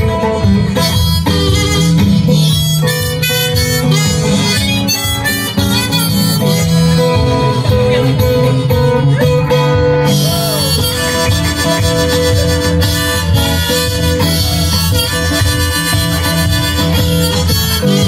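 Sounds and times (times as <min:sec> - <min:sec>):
blues harmonica: 0:00.0 - 0:18.0
guitar accompaniment: 0:00.0 - 0:18.0.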